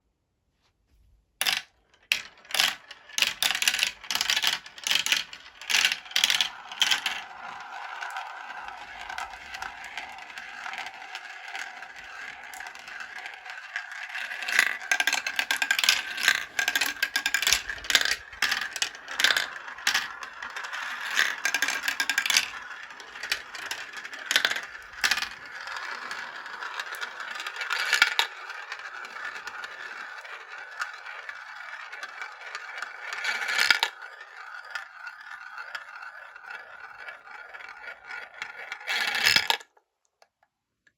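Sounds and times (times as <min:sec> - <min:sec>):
marbles clacking on a track: 0:01.4 - 0:39.7
marbles rolling rattle: 0:01.4 - 0:39.7.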